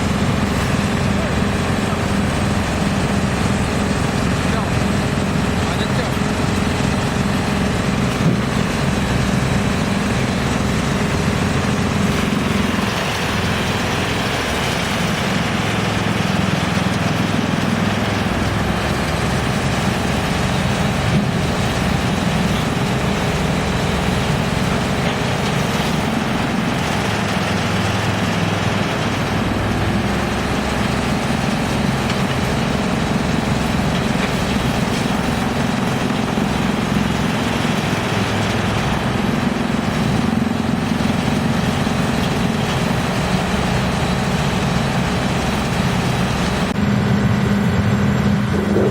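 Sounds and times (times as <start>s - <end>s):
wood chipper running: 0.0s - 48.9s.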